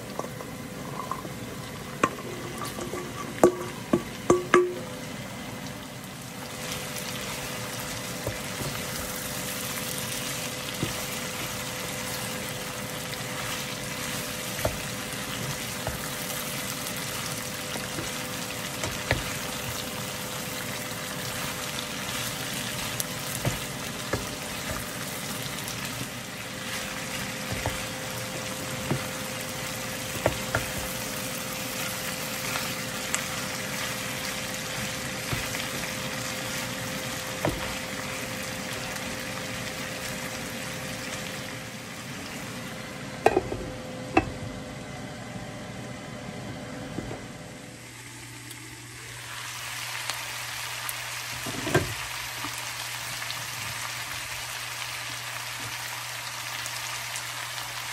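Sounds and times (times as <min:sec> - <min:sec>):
food sizzling in pan: 0:00.0 - 0:43.5, 0:48.9 - 0:57.9.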